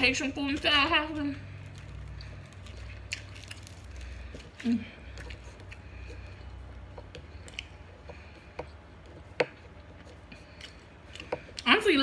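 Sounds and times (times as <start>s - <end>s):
low steady hum: 0.0s - 12.0s
mouth chewing food: 0.1s - 12.0s.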